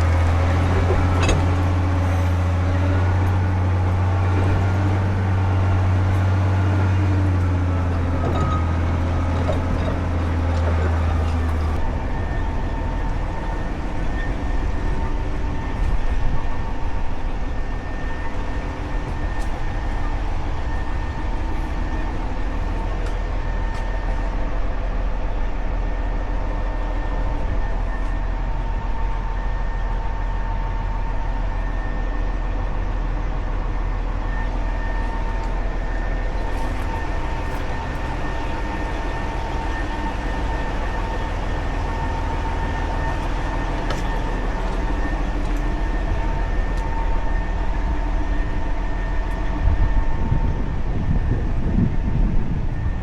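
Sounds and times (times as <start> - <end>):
motor grader diesel engine droning: 0.0 - 53.0.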